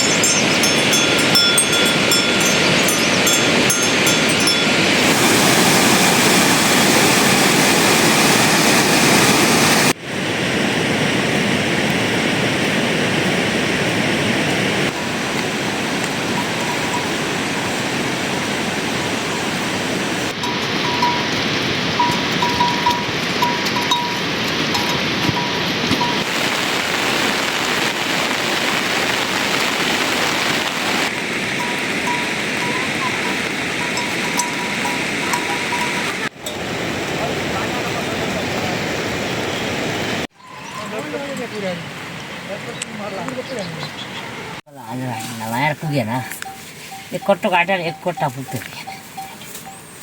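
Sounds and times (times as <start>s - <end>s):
rain falling steadily: 0.0s - 50.0s
water rushing: 0.0s - 50.0s.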